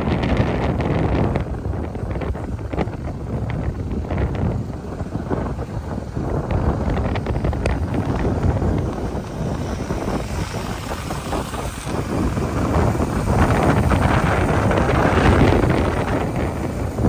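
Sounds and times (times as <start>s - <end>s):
road noise: 0.0s - 17.0s
vehicle engine: 0.0s - 17.0s
wind buffeting microphone: 0.0s - 17.0s.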